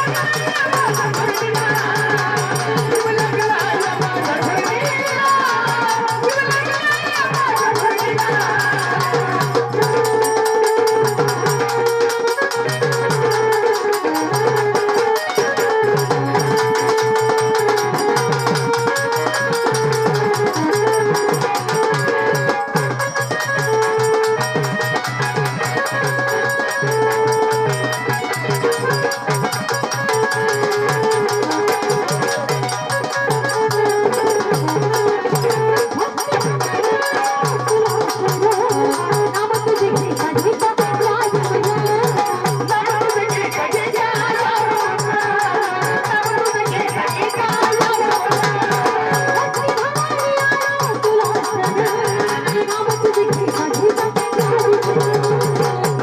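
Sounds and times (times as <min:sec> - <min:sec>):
steady drumming and percussion: 0:00.0 - 0:56.0.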